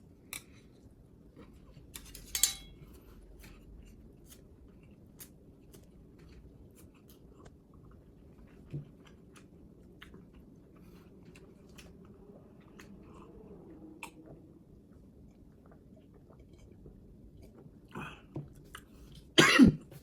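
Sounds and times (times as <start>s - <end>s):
person chewing food: 2.9s - 19.4s.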